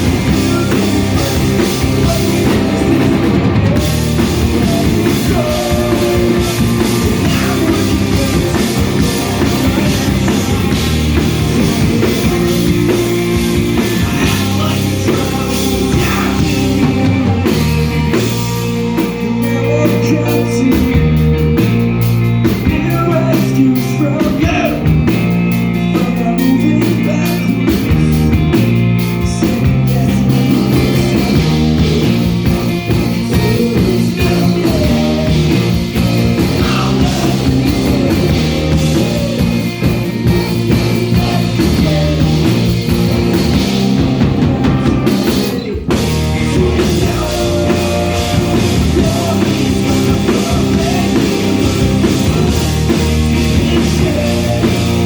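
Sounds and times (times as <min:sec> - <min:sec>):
person singing: 0:00.0 - 0:21.6, 0:22.5 - 0:25.0, 0:25.7 - 0:28.6, 0:29.2 - 0:55.0
drum kit: 0:00.0 - 0:55.0
live rock band playing: 0:00.0 - 0:55.0.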